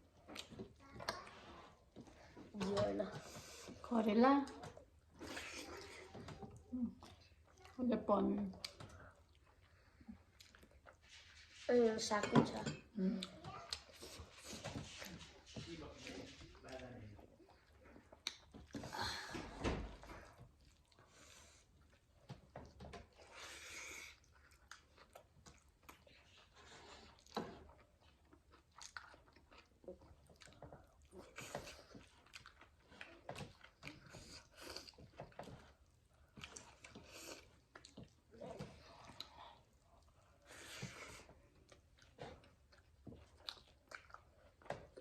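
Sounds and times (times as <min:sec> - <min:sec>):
people chewing food: 0:00.0 - 0:45.0.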